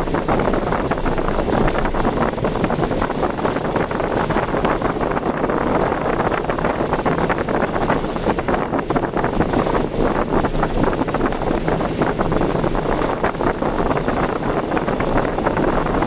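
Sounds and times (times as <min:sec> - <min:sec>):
road noise: 0:00.0 - 0:16.0
wind noise: 0:00.0 - 0:16.0.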